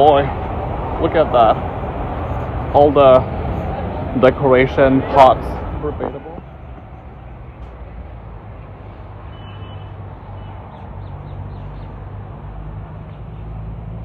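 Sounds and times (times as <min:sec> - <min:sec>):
street noise: 0:00.0 - 0:14.0
vehicle engine rumbling: 0:00.0 - 0:14.0.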